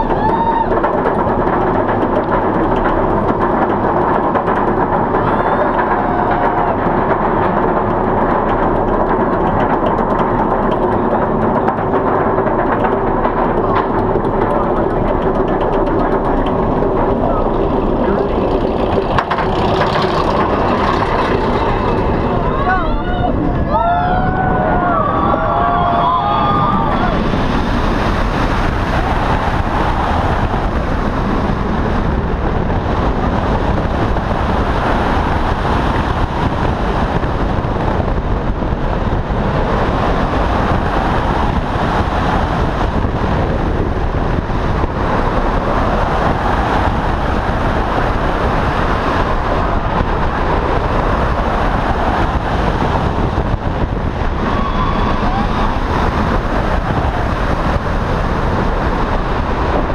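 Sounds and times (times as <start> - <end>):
roller coaster running on track: 0.0 - 59.9
wind rushing over microphone: 0.0 - 59.9.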